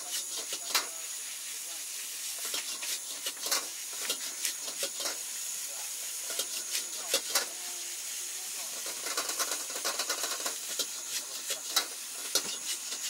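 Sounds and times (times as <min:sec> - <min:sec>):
metal utensils scraping a wok: 0:00.0 - 0:07.9, 0:08.6 - 0:13.0
food sizzling: 0:00.0 - 0:13.0
gas burner hissing: 0:00.0 - 0:13.0.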